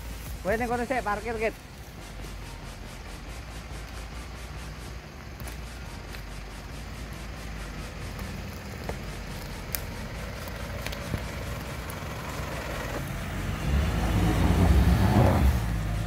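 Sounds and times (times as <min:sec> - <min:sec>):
suv engine running: 0:00.0 - 0:16.0.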